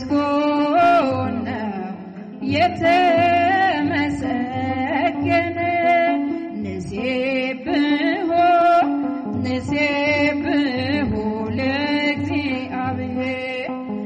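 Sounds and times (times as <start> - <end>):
sustained low instrumental accompaniment: 0.0 - 14.0
woman singing a hymn: 0.0 - 14.0.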